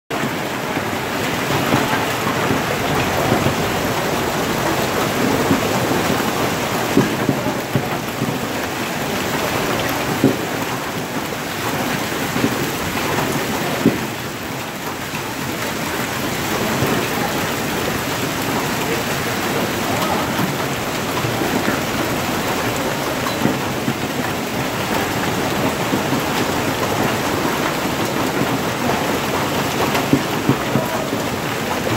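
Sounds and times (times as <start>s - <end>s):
hail and rain on cars: 0.1s - 31.9s.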